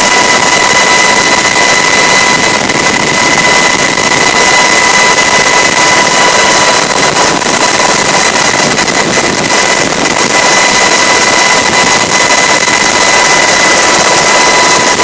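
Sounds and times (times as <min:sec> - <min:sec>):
helicopter rushing noise: 0:00.0 - 0:15.0
high-pitched whine: 0:00.0 - 0:15.0.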